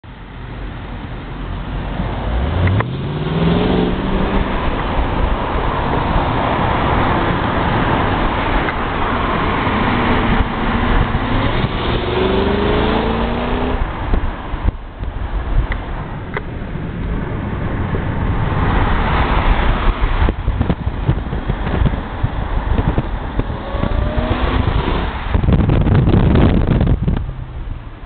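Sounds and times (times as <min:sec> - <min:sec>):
road and wind noise: 0:00.0 - 0:28.0
car engine accelerating: 0:01.4 - 0:28.0.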